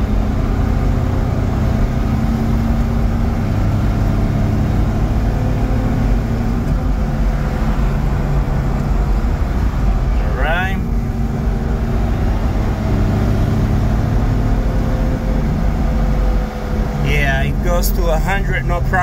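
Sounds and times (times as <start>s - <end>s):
road noise: 0.0s - 19.0s
truck engine running steadily: 0.0s - 19.0s.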